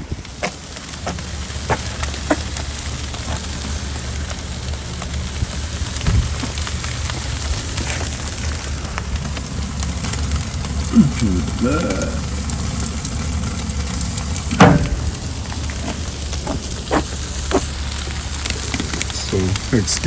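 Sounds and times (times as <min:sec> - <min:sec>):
grill fire crackling: 0:00.0 - 0:20.0
low steady rumble: 0:00.0 - 0:20.0.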